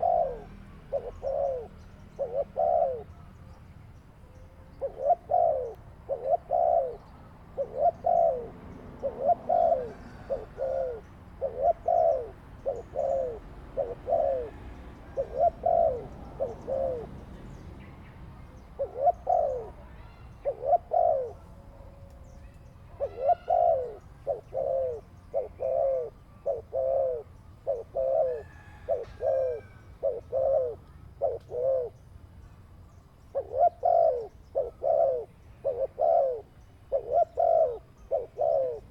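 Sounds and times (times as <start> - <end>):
dove cooing: 0.0 - 3.6, 4.2 - 38.9.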